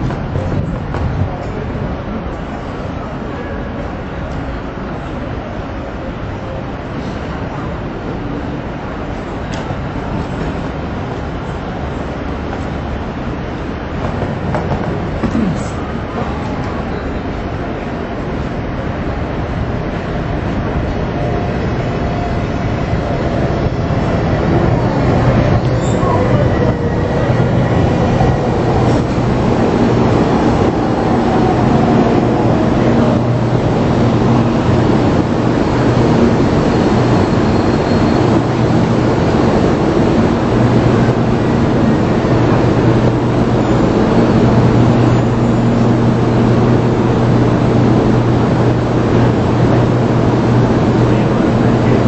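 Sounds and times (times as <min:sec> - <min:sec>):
train rushing drone: 0:00.0 - 0:52.0.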